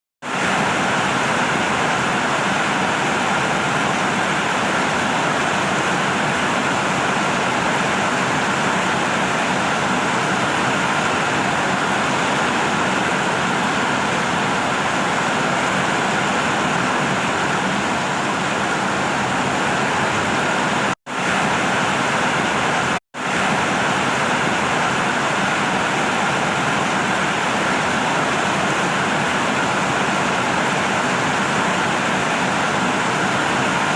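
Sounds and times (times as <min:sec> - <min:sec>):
heavy rain: 0:00.2 - 0:33.9.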